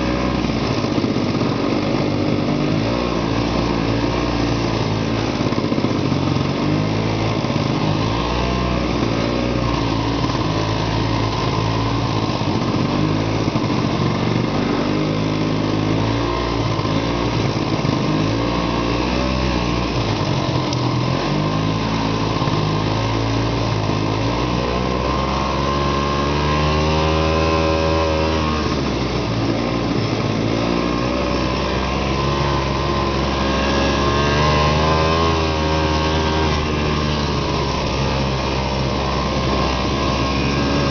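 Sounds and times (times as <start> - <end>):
snowmobile engine revving: 0.0 - 40.9.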